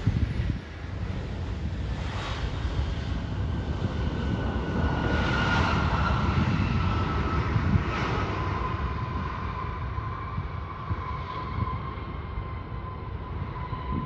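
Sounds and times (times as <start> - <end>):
passing plane engines rumbling: 0.0 - 14.0.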